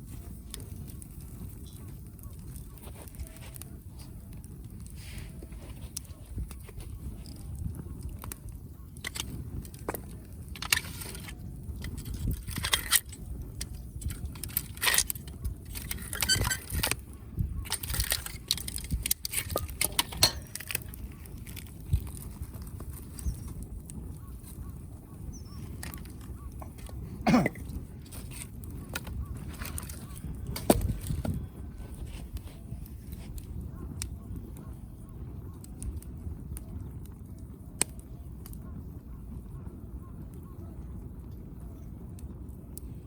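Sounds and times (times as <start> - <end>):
firewood crackling and popping: 0.0 - 43.0
low fire rumble: 0.0 - 43.0.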